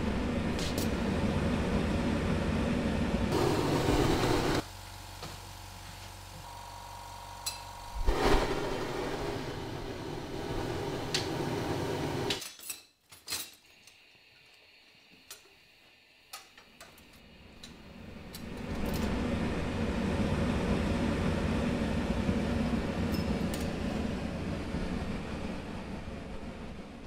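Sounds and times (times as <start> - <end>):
furnace flame roaring: 0.0 - 12.4, 14.4 - 27.0.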